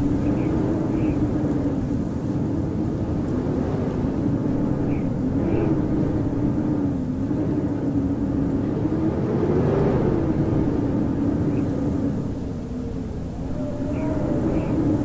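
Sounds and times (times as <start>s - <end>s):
howling blizzard wind: 0.0s - 15.0s.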